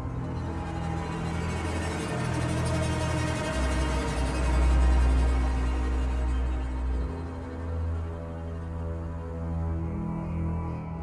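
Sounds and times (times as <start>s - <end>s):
background soundtrack music: 0.0s - 11.0s
deep low drone: 0.0s - 11.0s.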